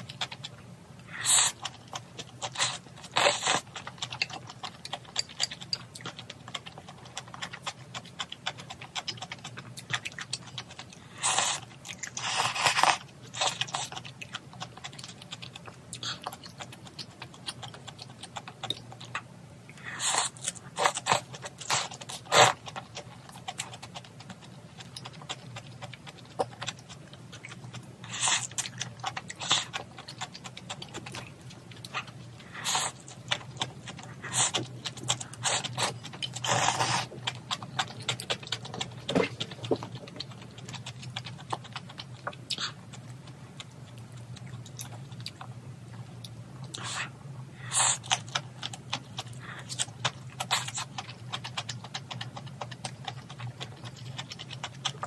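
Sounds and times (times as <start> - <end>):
wet chewing: 0.0 - 55.0.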